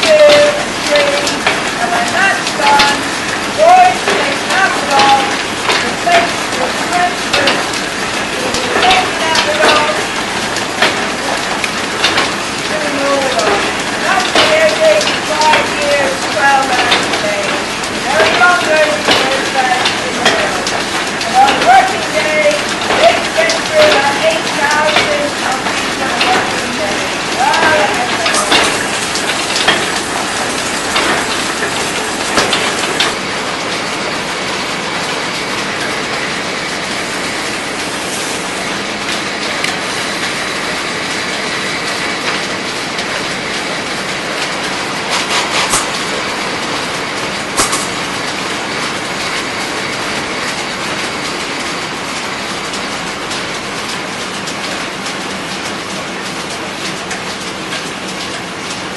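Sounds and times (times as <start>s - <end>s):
machinery clattering: 0.0s - 58.9s.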